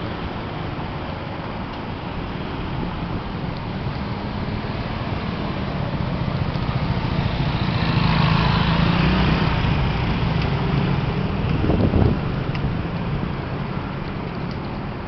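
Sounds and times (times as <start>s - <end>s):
traffic and wind noise: 0.0s - 15.0s.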